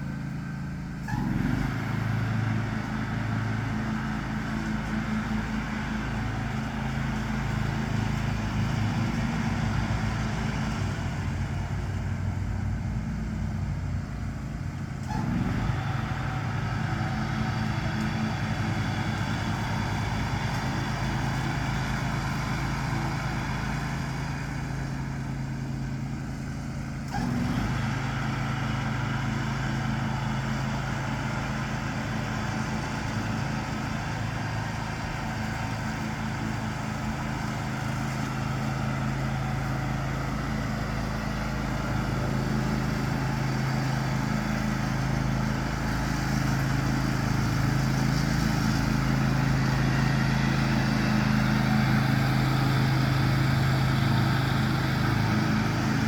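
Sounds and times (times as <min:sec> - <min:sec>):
riding lawn mower running: 0:00.0 - 0:56.0.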